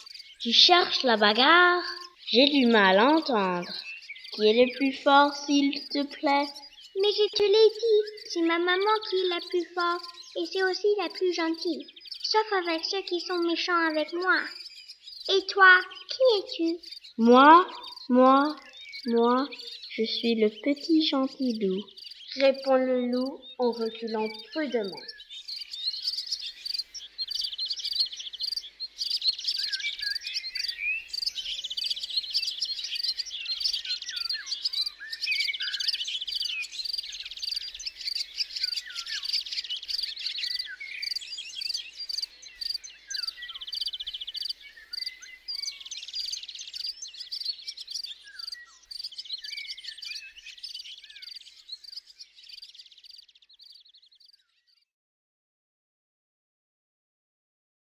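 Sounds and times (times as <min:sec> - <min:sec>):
insects trilling: 0:00.0 - 0:54.3
small birds chirping: 0:00.0 - 0:54.9.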